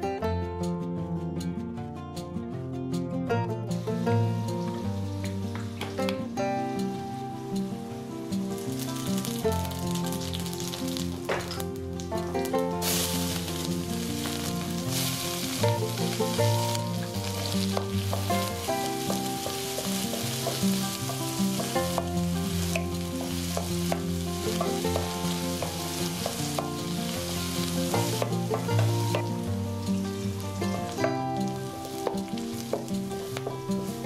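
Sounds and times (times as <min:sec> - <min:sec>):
vegetables sizzling in a pan: 0:03.7 - 0:34.0.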